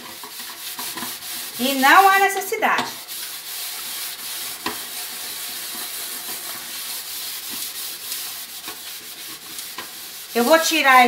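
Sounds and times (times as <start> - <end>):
steel wool scrubbing metal pot: 0.0 - 11.0.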